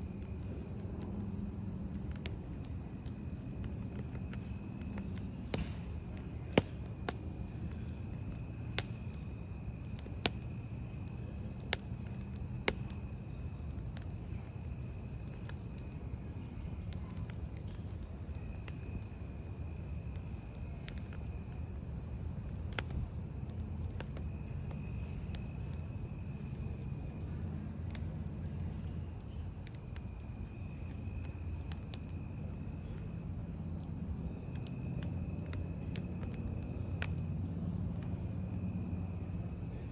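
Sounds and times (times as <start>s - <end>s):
campfire crackling: 0.0s - 39.9s
crickets trilling: 0.0s - 39.9s
low fire noise: 0.0s - 39.9s.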